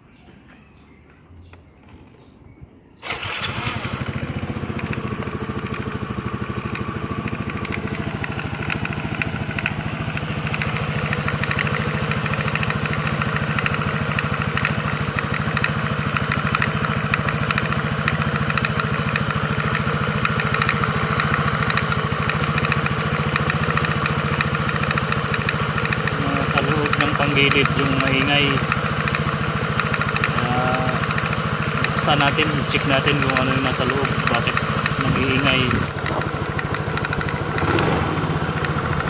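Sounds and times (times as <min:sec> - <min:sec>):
scooter engine idling: 0:03.0 - 0:39.0
fast clattering rattle: 0:06.6 - 0:39.0.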